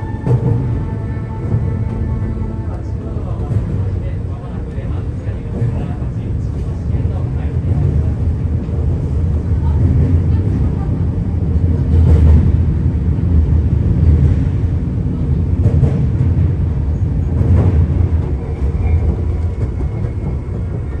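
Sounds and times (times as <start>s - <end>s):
train clanks: 0.0s - 21.0s
train wheels rumbling: 0.0s - 21.0s.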